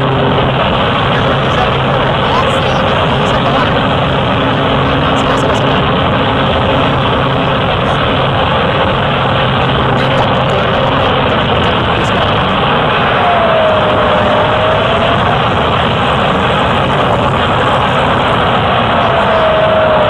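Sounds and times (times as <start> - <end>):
aircraft engine and propeller: 0.0 - 20.0.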